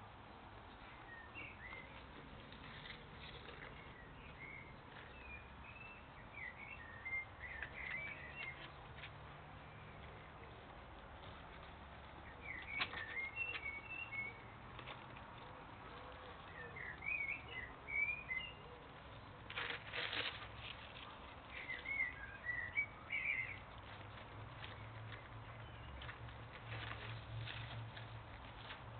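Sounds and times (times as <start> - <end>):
ferrets scratching in soil: 0.7 - 28.9.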